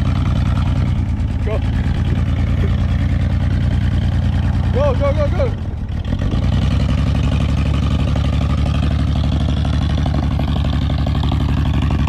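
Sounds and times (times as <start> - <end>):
rough engine running: 0.0 - 12.0.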